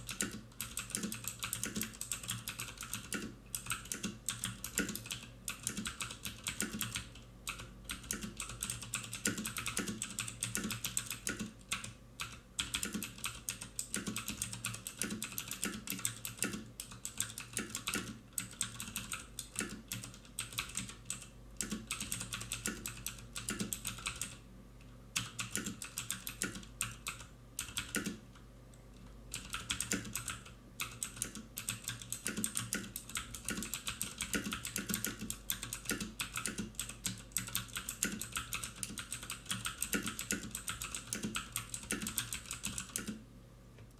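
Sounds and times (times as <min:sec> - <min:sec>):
mechanical keyboard typing: 0:00.0 - 0:24.4, 0:25.2 - 0:28.2, 0:29.3 - 0:43.2.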